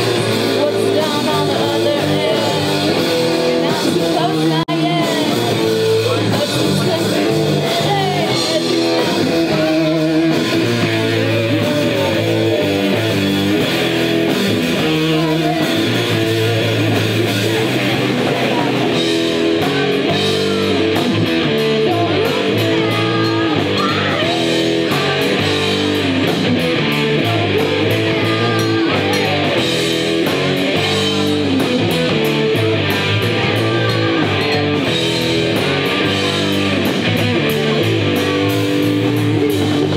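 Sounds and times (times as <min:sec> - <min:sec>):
bass guitar: 0:00.0 - 0:39.9
drums and cymbals: 0:00.0 - 0:39.9
electric guitar: 0:00.0 - 0:39.9.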